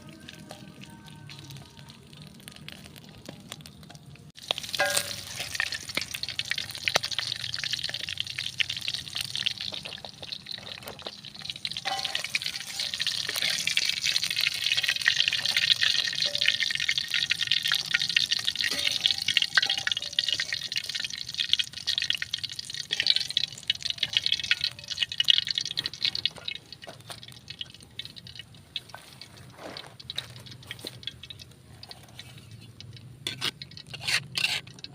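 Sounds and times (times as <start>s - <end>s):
food frying in hot oil: 0.0s - 34.9s.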